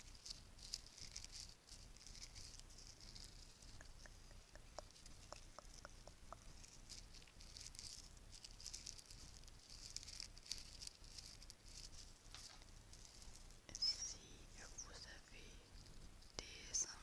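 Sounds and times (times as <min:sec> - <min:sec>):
bracelets rustling and tapping: 0:00.0 - 0:14.2.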